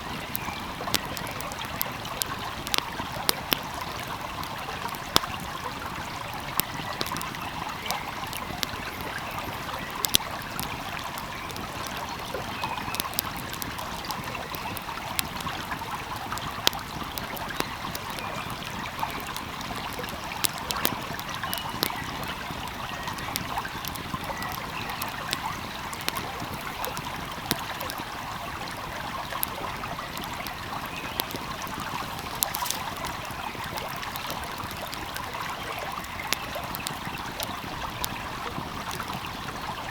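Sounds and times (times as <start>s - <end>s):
stream flowing: 0.0s - 39.9s
wood fire crackling: 0.0s - 39.9s.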